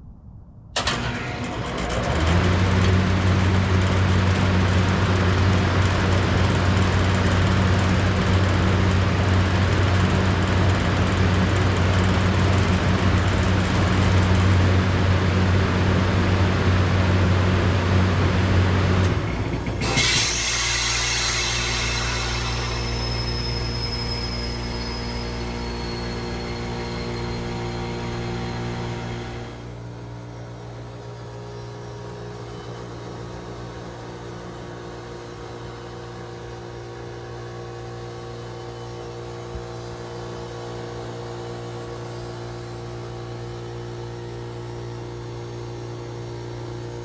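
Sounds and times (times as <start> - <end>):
fan spinning up: 0.4 - 47.0
heat pump running with deep hum: 2.3 - 47.0.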